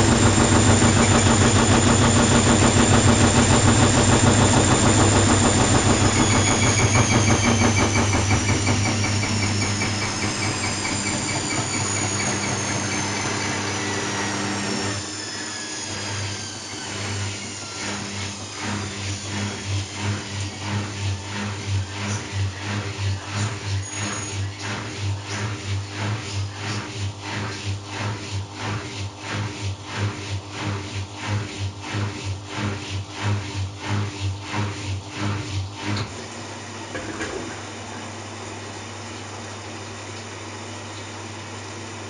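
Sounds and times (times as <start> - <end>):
washing machine motor whine: 0.0 - 42.0
washing machine rhythmic churning: 0.0 - 42.0.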